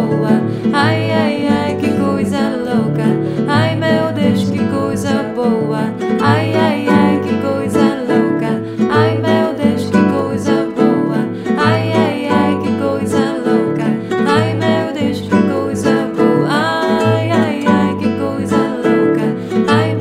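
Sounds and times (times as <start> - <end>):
nylon-string guitars playing: 0.0 - 20.0
wordless vocal: 0.0 - 20.0.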